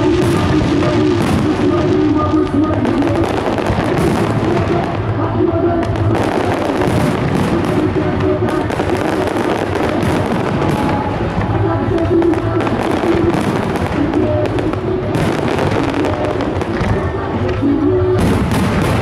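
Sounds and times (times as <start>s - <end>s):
fireworks bursting and crackling: 0.0s - 19.0s
loud music: 0.0s - 19.0s.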